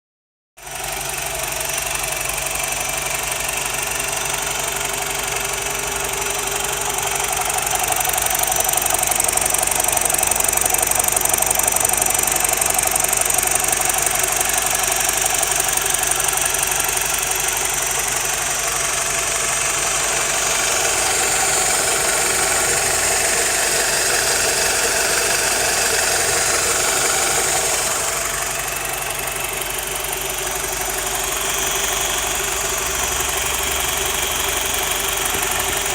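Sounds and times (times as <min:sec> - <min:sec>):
rattling petrol engine running: 0:00.6 - 0:35.9.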